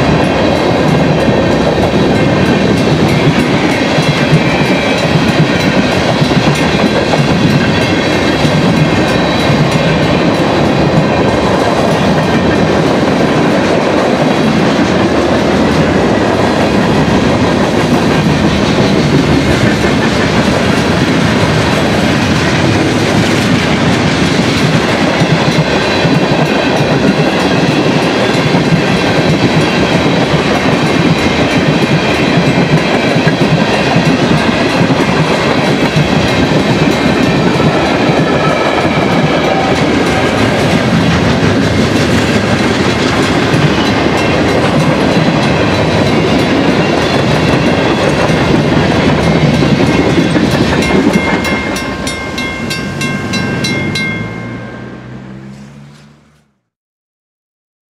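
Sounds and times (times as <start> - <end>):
crossing bell ringing: 0.0 - 22.3, 23.5 - 56.2
train wheels clattering on rails: 0.0 - 56.2.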